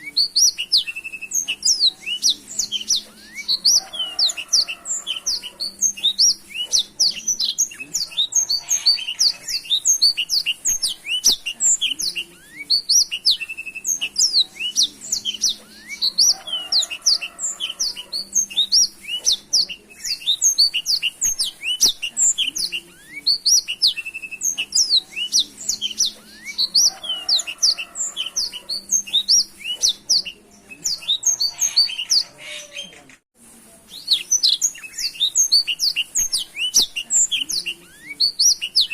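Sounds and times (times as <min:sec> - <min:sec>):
canary singing chirps and trills: 0:00.0 - 0:33.2, 0:33.8 - 0:38.9.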